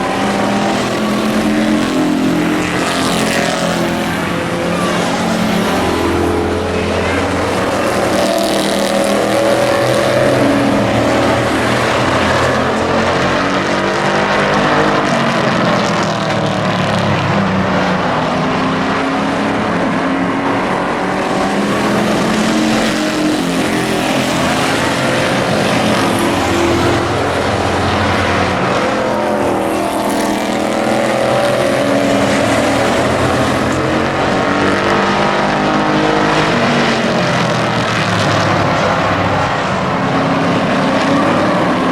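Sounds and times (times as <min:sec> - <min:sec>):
race truck engines running: 0:00.0 - 0:41.9.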